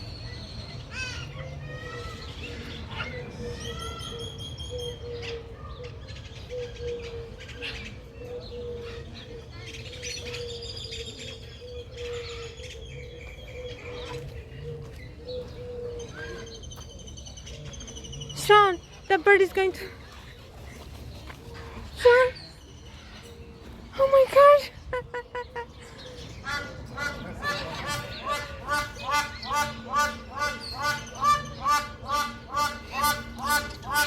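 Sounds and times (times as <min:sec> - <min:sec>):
birds chirping and whistling: 0:01.9 - 0:19.3, 0:20.0 - 0:34.0.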